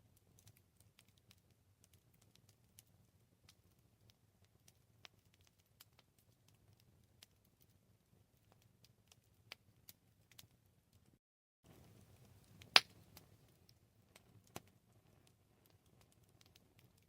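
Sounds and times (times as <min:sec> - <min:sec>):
campfire crackling and popping: 0:00.0 - 0:17.0
low rumble of burning wood: 0:00.0 - 0:17.0.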